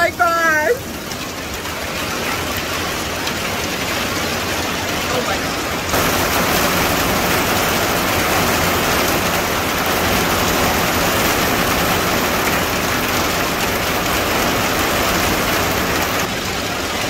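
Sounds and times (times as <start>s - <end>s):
heavy rain on corrugated roof: 0.0s - 17.0s.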